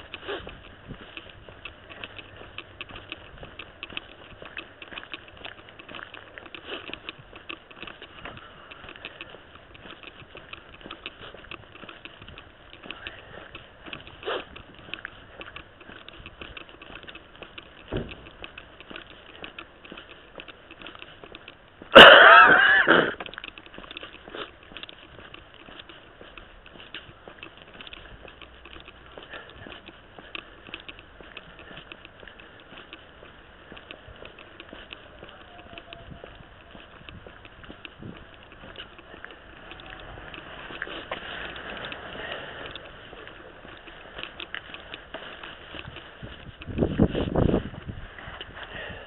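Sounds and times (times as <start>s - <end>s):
footsteps and rustling: 0.0s - 49.0s.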